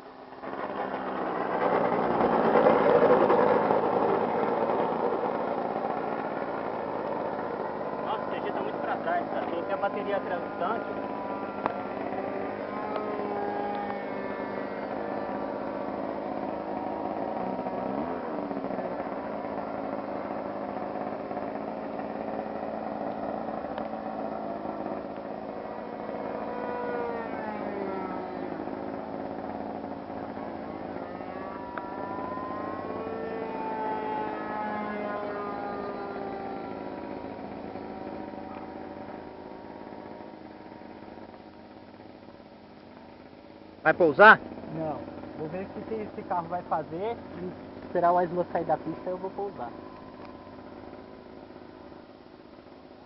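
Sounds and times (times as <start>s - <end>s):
model plane engine buzzing: 0.0s - 43.4s, 44.2s - 53.0s.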